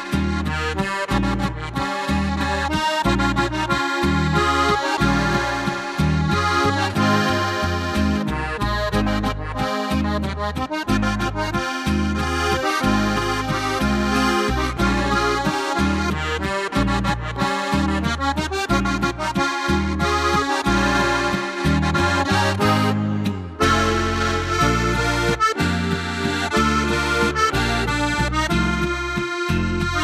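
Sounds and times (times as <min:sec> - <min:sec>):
accordion melody: 0:00.0 - 0:30.0
bouncing bass line: 0:00.0 - 0:30.0.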